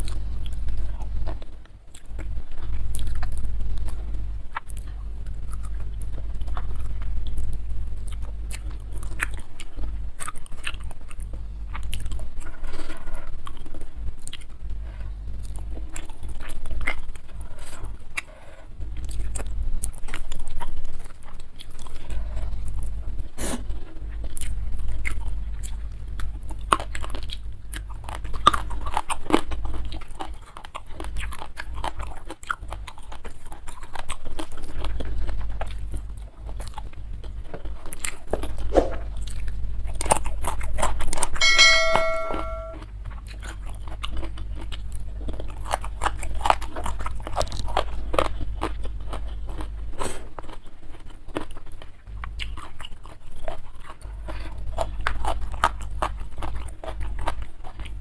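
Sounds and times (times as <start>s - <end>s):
wet chewing and crunching: 0.0s - 41.4s, 42.8s - 58.0s.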